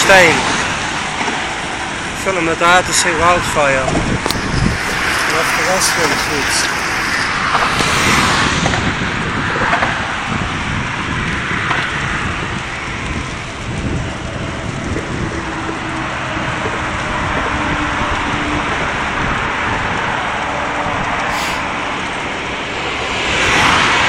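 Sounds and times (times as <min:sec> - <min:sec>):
motorway traffic rushing: 0:00.0 - 0:24.0
wind rumbling on microphone: 0:00.0 - 0:24.0.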